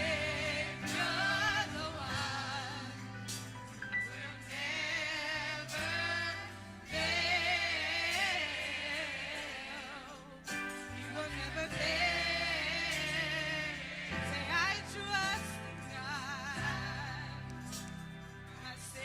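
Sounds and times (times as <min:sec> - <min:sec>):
gospel choir singing: 0:00.0 - 0:19.0
low sustained accompaniment: 0:00.0 - 0:19.0.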